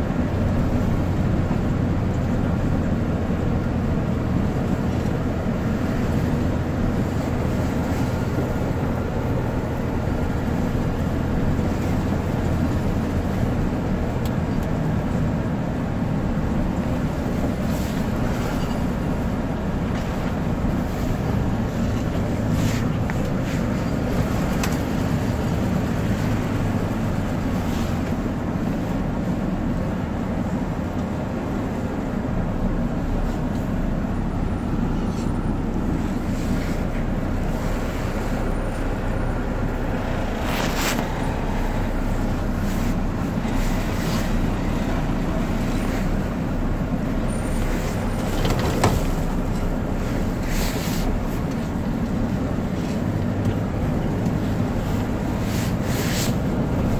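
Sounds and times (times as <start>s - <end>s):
truck engine and road noise: 0.0s - 56.9s.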